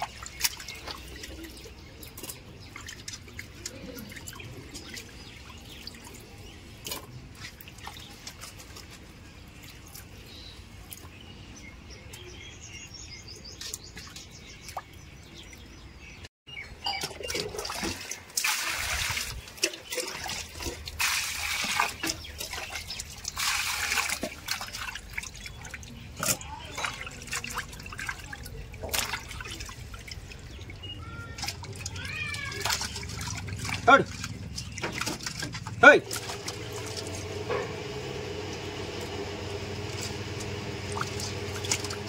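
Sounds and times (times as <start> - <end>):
water splashing: 0.0 - 11.2, 17.0 - 42.0
water dripping and trickling: 0.0 - 11.3, 13.6 - 15.8, 16.8 - 42.0.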